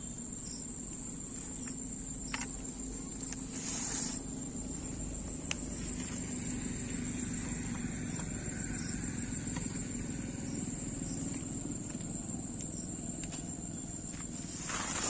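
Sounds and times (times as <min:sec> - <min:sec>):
crickets calling: 0:00.0 - 0:15.0
low steady rumble: 0:00.0 - 0:15.0.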